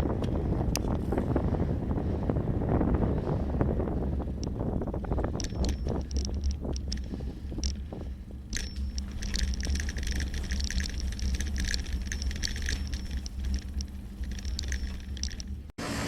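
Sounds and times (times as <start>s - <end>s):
bicycle ticking and rattling: 0.0s - 15.7s
wind rumbling on microphone: 0.0s - 15.7s.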